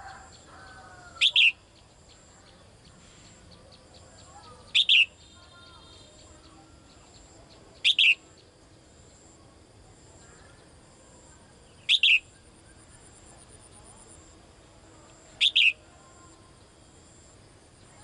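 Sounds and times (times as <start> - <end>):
songbird calling: 0.0 - 9.4, 11.6 - 14.3, 15.1 - 18.0.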